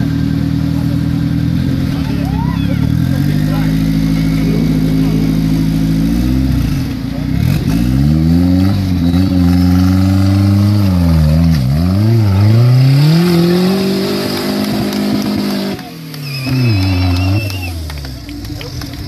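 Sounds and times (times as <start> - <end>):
buggy engine revving hard: 0.0 - 19.0.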